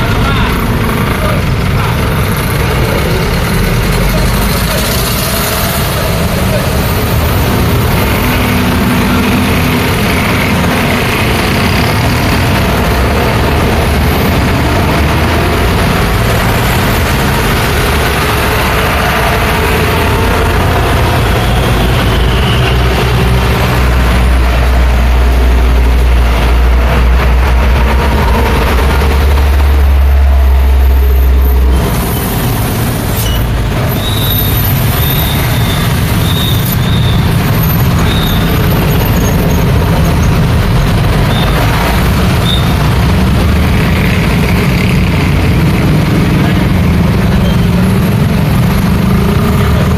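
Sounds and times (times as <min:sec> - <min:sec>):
heavy vehicle engine rumble: 0:00.0 - 0:49.9
road traffic: 0:00.0 - 0:49.9.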